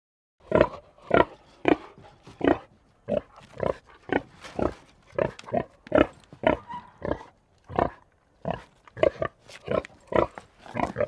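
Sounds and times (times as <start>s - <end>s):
pig grunting: 0.4s - 11.0s.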